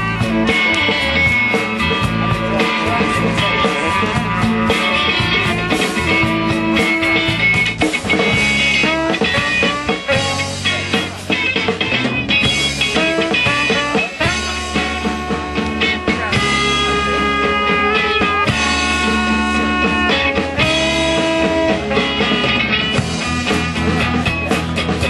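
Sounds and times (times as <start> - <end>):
live rock band playing: 0.0 - 25.0
sustained guitar notes: 0.0 - 25.0.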